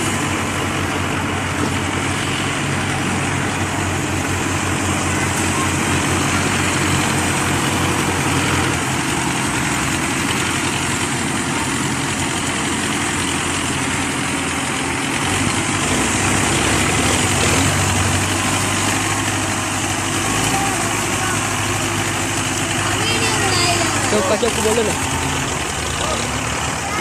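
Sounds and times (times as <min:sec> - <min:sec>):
tractor engines running: 0:00.0 - 0:27.0.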